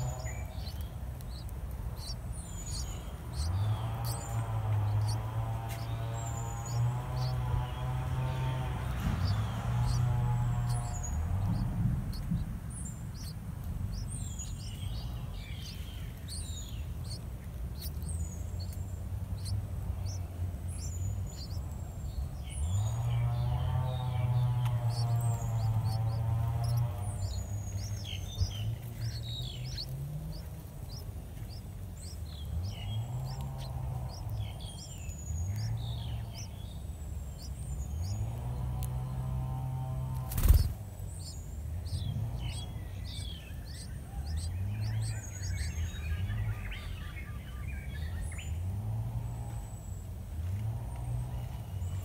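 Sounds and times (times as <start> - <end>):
high bird chirps and tweets: 0.0 - 52.0
low rising hum: 0.0 - 52.0.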